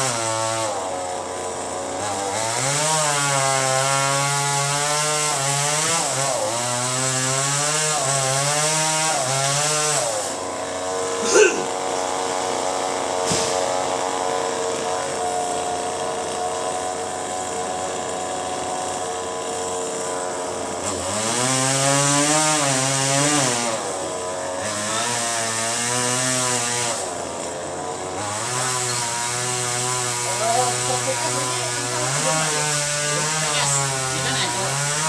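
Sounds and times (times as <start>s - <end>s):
chainsaw running and revving: 0.0s - 35.0s.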